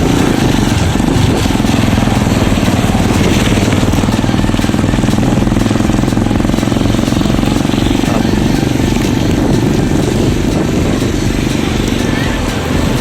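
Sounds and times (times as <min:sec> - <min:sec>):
bicycle tyre noise: 0:00.0 - 0:13.0
wind buffeting microphone: 0:00.0 - 0:13.0.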